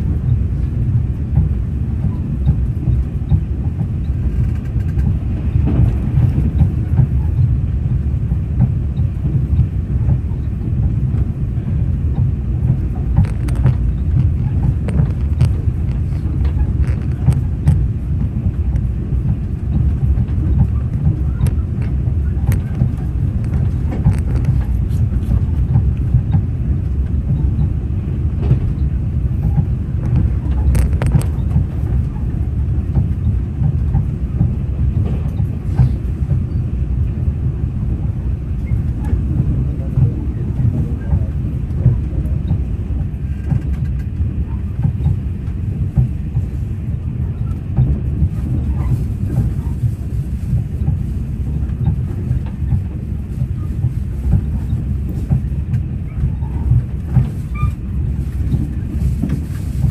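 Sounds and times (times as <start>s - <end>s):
train rumbling: 0.0s - 59.9s
wheels clicking over rail joints: 0.1s - 59.9s.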